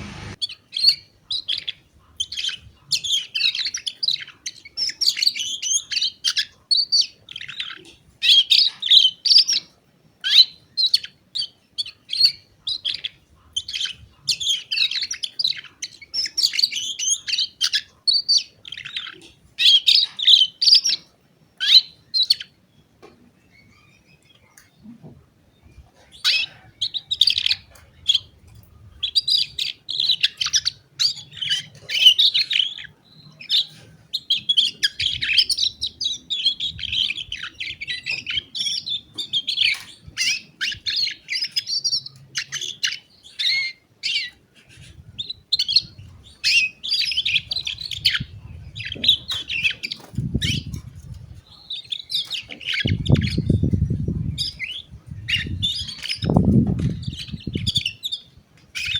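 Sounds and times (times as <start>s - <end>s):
canary singing: 0.0s - 22.6s, 25.6s - 58.9s.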